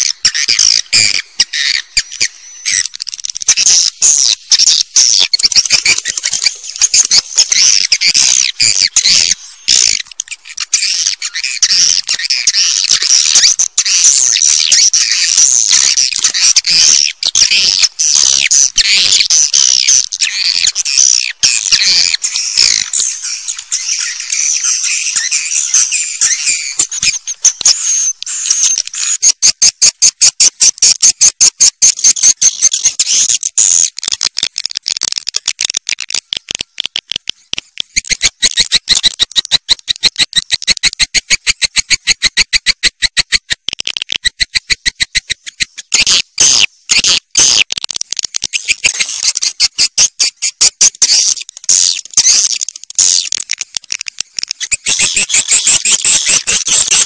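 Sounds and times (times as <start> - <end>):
swiftlets clicking chirps: 0.0 - 57.0.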